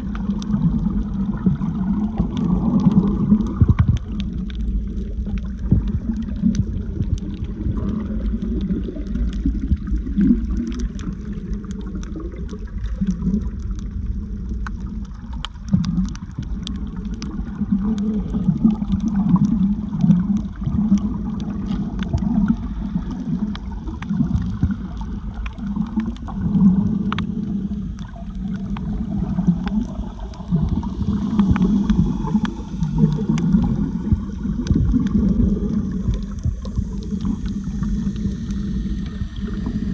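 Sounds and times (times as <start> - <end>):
muffled underwater sloshing: 0.0 - 39.9
faint sharp clicks: 2.1 - 39.2.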